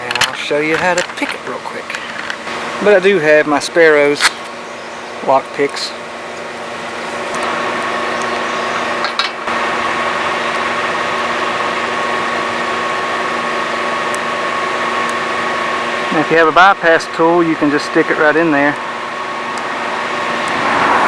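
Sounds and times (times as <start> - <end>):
vehicle idling hum: 0.0 - 21.0.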